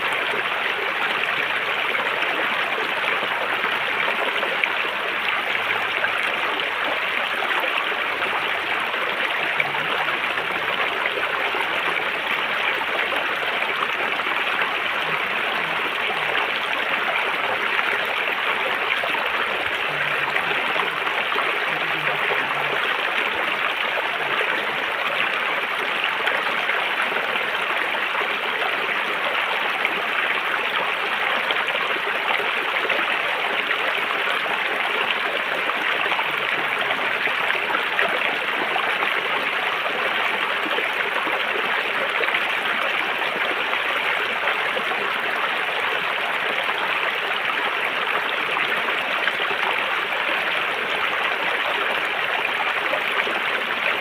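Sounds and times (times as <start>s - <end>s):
river water running over rocks: 0.0s - 54.0s.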